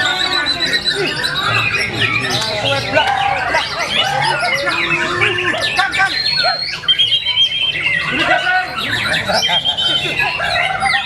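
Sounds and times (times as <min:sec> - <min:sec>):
songbird singing whistles: 0:00.0 - 0:11.0.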